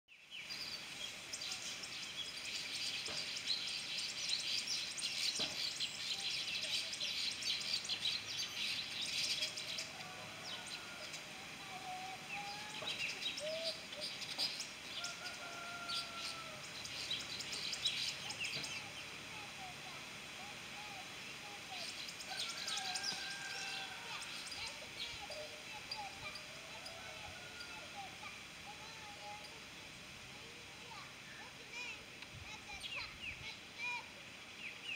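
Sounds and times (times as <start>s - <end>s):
weaver birds chattering: 0.1s - 34.9s.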